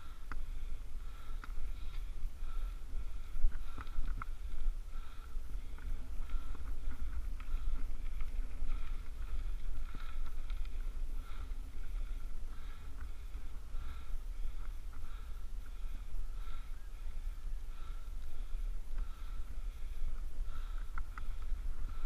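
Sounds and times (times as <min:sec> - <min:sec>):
cyclist breathing hard: 0:00.0 - 0:22.0
wind and road rumble: 0:00.0 - 0:22.0
faint clicks: 0:00.2 - 0:00.5, 0:01.1 - 0:02.8, 0:03.4 - 0:15.8, 0:17.9 - 0:22.0.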